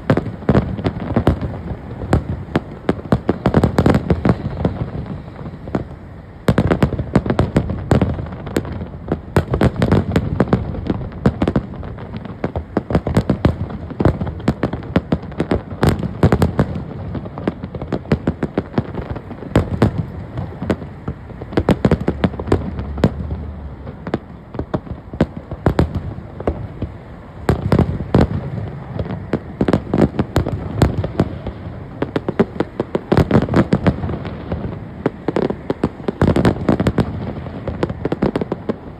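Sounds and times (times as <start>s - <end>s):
fireworks bursts and crackling bangs: 0.0s - 38.9s.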